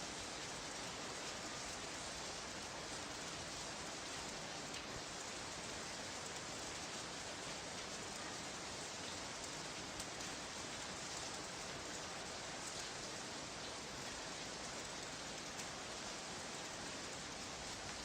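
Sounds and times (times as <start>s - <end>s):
vinyl record hiss and crackle: 0.0s - 18.0s.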